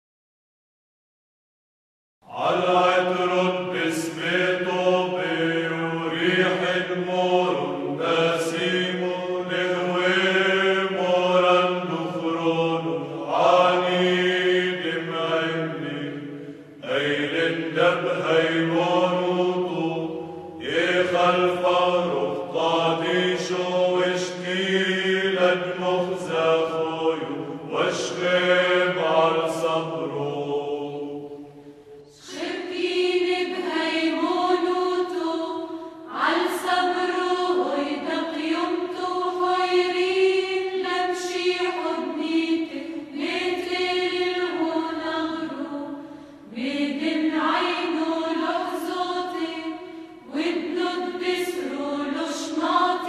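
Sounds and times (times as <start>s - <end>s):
slow melodic sung chant: 2.2s - 53.0s.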